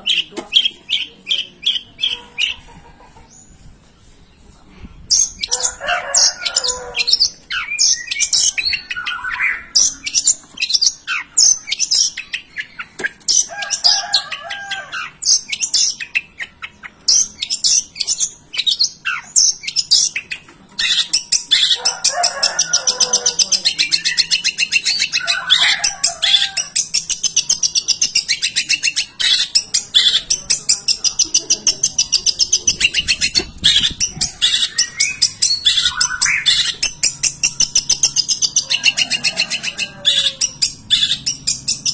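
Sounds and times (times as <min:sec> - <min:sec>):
bird chirps and trills: 0:05.1 - 0:41.9.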